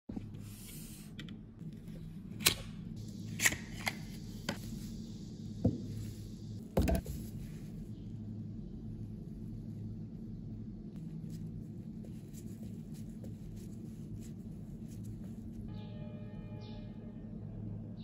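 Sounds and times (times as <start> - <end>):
low steady hum: 0.1 - 18.0.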